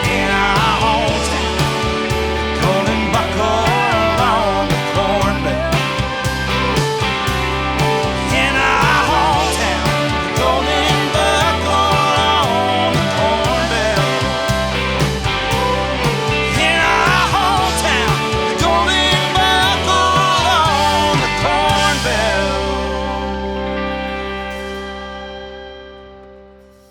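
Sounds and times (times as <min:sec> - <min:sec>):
wavering lead melody: 0:00.0 - 0:26.4
bass: 0:00.0 - 0:26.9
drums: 0:00.0 - 0:26.9.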